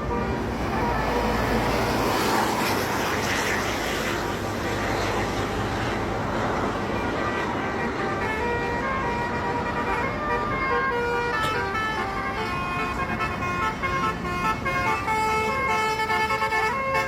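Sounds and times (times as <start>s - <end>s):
bus passing by: 0.0s - 17.0s
multi-tone bus horn: 0.0s - 17.0s.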